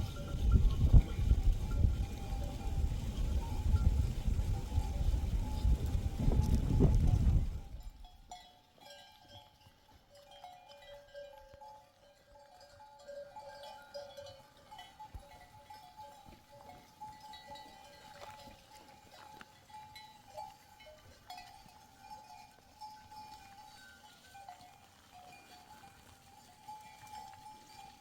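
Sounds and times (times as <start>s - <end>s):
livestock bells clinking: 0.0s - 28.0s.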